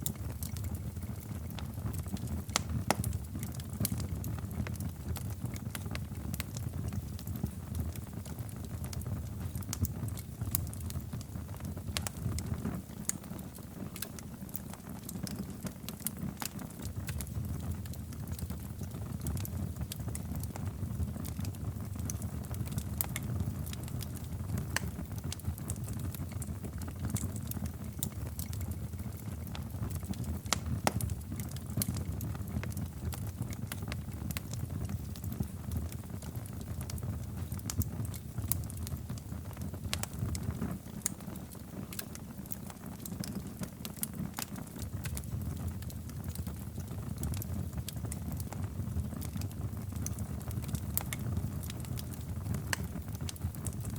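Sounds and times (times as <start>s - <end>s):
fire crackles and pops: 0.0s - 53.9s
fire flames roaring: 9.6s - 53.9s.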